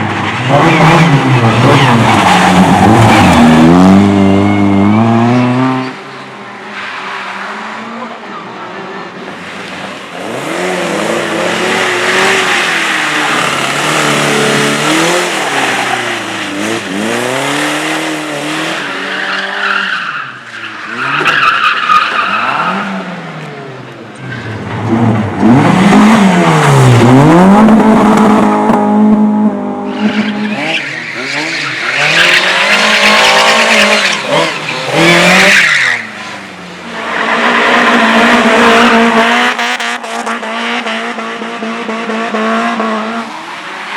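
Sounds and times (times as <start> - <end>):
race car engine revving: 0.0 - 6.2, 7.3 - 43.9.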